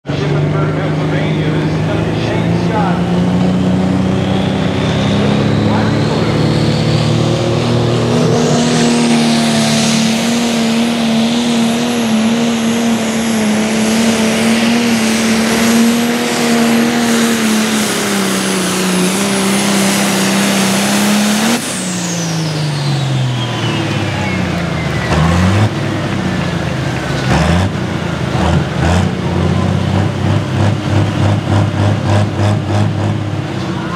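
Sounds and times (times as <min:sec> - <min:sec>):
high turbo whine: 0:00.0 - 0:33.9
tractor diesel engine at full power: 0:00.0 - 0:33.9.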